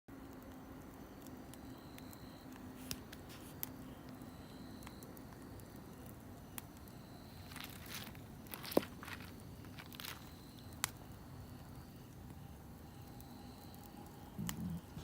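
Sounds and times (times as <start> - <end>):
campfire hiss: 0.1 - 15.0
wood popping in campfire: 0.2 - 15.0.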